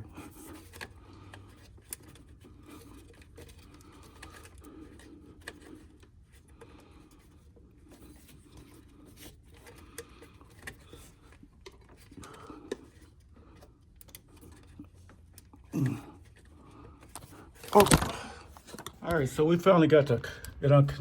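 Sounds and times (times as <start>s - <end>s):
plastic connector clicks and scraping: 0.1s - 19.3s.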